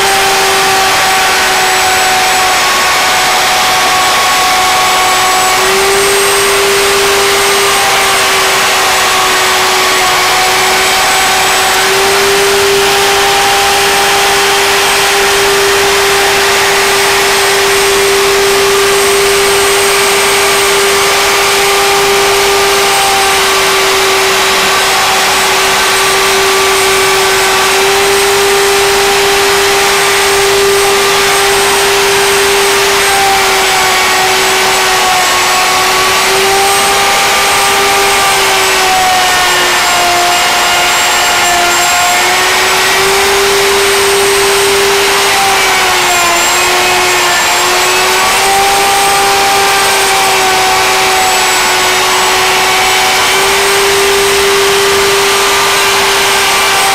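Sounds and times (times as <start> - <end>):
router whining while cutting wood: 0.0 - 56.9.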